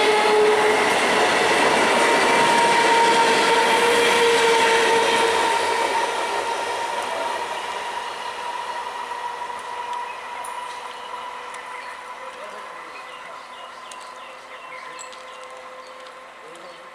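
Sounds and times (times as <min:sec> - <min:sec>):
train wheels rumbling: 0:00.0 - 0:16.9
train whine: 0:00.0 - 0:16.9.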